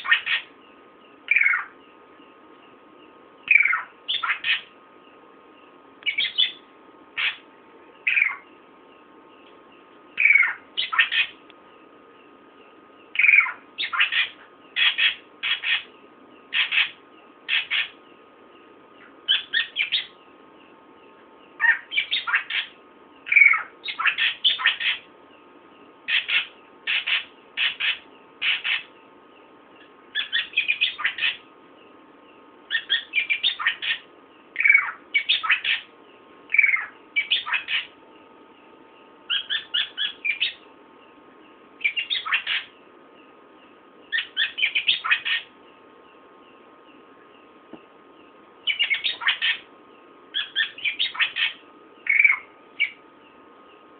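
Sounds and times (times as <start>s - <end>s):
songbird high rapid chirps: 0.0s - 38.3s, 39.0s - 53.9s.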